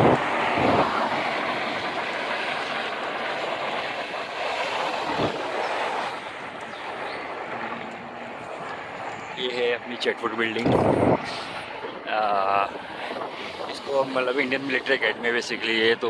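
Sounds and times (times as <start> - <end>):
wind and bicycle tyres rushing: 0.0 - 16.0.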